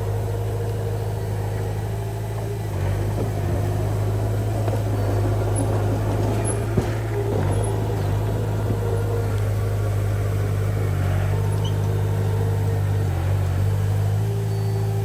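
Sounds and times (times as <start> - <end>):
bulldozer diesel engine humming: 0.0 - 15.0.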